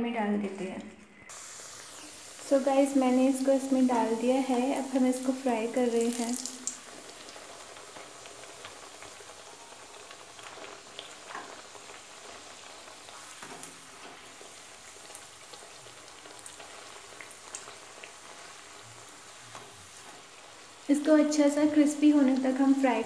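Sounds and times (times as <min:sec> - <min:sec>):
pastry sizzling in hot oil: 0:01.2 - 0:23.0
spatula turning food in oil: 0:01.3 - 0:20.9.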